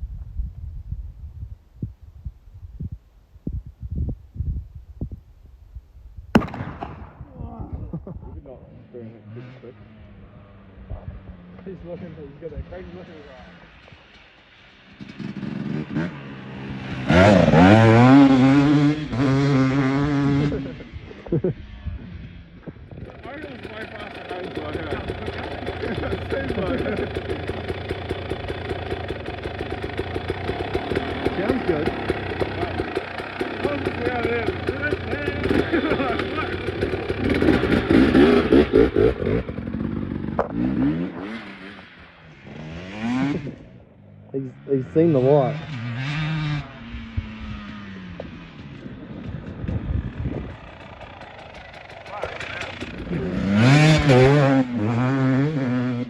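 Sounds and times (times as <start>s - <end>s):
vehicle engine revving: 8.6s - 56.0s.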